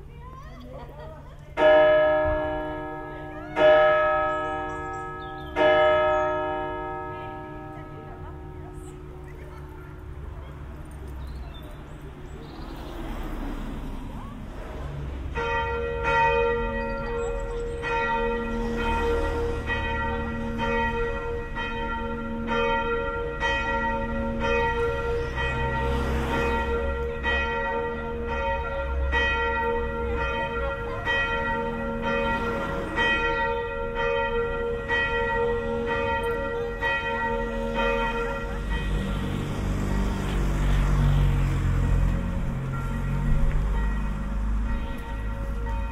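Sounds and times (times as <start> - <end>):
church bell ringing: 1.5 - 11.0, 15.3 - 45.9.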